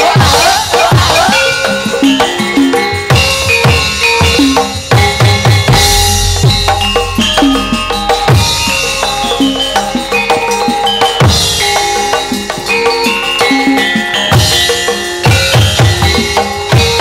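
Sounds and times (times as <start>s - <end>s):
struck metal gamelan notes: 0.0s - 17.0s
hand drum strokes: 2.1s - 17.0s.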